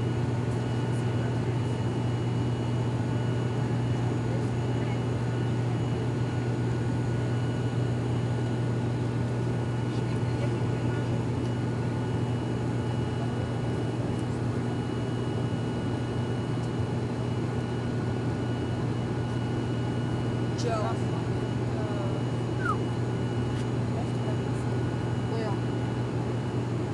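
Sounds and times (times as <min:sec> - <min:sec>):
propeller drone: 0:00.0 - 0:26.9.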